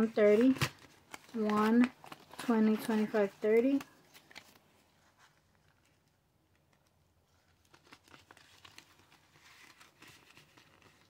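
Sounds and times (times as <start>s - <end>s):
paper bills rustling and clicking: 0.0s - 6.0s, 6.6s - 11.0s.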